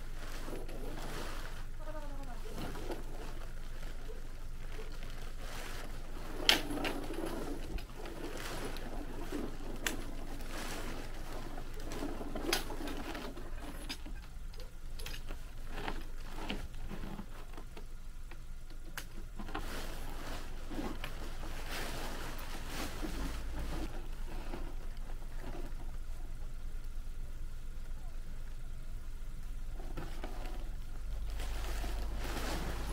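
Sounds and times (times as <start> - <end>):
tent fabric rustling and scraping: 0.0 - 14.2, 15.0 - 17.7, 19.3 - 26.2, 29.7 - 32.9.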